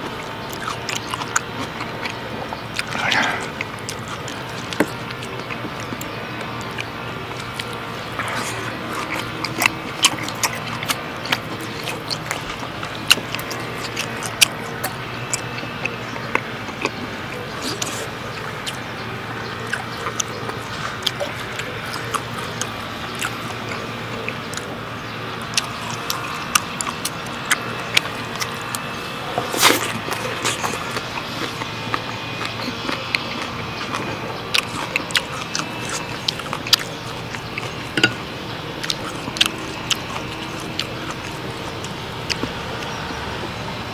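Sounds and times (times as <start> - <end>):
chewing with wet mouth clicks: 0.0 - 43.6.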